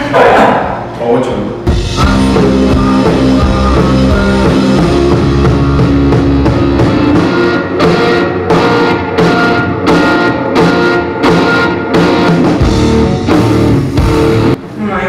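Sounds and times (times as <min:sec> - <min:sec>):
electric guitar chords: 0:00.8 - 0:14.8
drum kit beat: 0:01.6 - 0:14.6.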